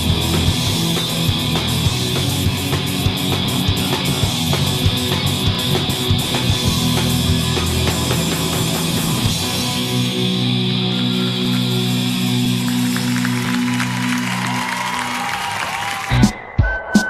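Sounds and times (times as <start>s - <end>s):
heavy rock band playing: 0.0s - 17.0s.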